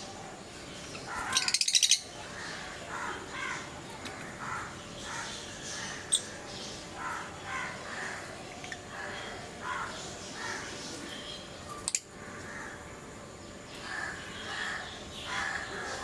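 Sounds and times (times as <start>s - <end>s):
lovebirds chattering: 0.0s - 16.0s.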